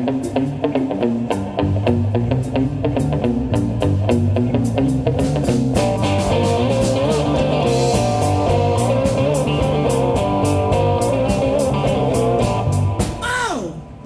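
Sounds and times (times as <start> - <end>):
cigar box guitar: 0.0 - 13.2
electric bass: 0.0 - 13.3
drums keeping a steady beat: 0.0 - 13.9.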